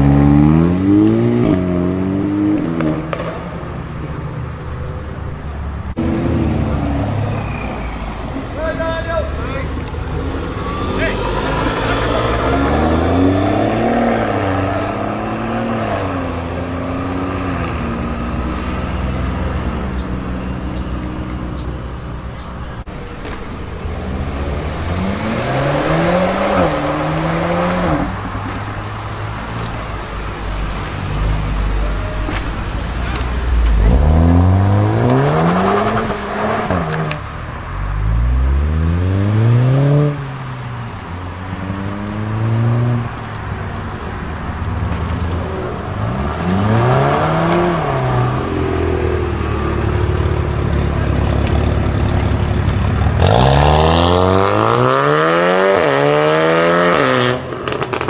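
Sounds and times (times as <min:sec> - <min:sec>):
car engines accelerating hard: 0:00.0 - 0:58.0.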